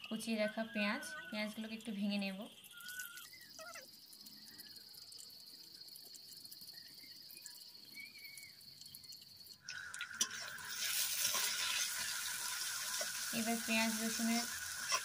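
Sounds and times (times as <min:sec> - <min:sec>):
onions and garlic frying in oil: 0:00.0 - 0:15.0
insect trill: 0:00.2 - 0:15.0.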